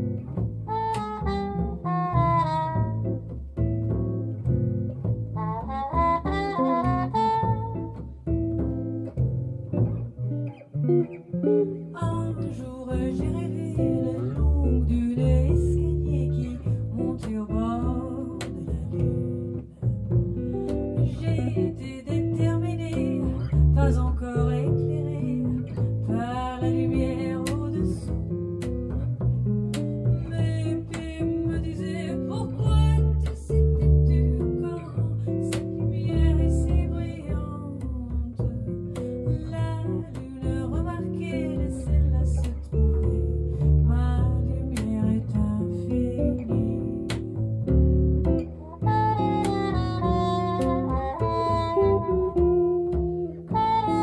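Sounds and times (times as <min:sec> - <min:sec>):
double bass: 0:00.0 - 0:54.0
guitar: 0:00.0 - 0:54.0.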